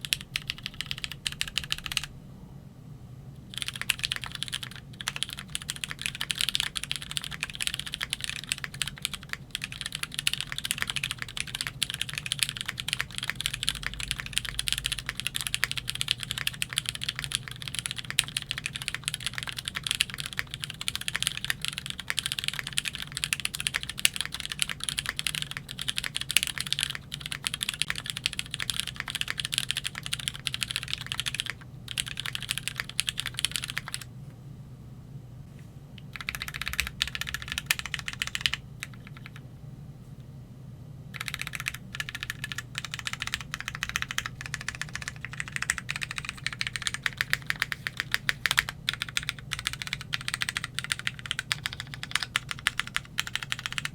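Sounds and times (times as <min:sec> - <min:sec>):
typing on mechanical keyboard: 0:00.0 - 0:02.1, 0:03.5 - 0:34.1, 0:36.0 - 0:39.4, 0:41.1 - 0:53.9.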